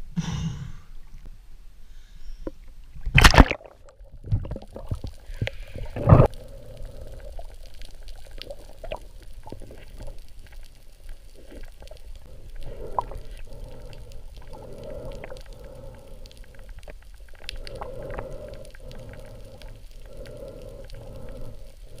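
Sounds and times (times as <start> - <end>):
muffled underwater rumble: 4.0 - 22.0.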